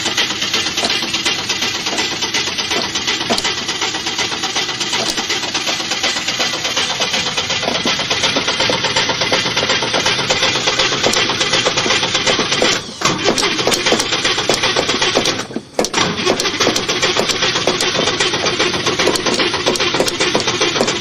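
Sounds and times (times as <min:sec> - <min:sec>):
starter cranking engine: 0:00.0 - 0:21.0.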